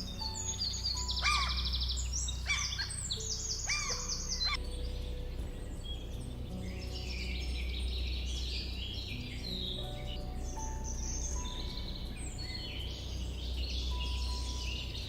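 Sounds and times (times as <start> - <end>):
bird chirps: 0.0 - 15.0
low steady hum: 0.0 - 15.0.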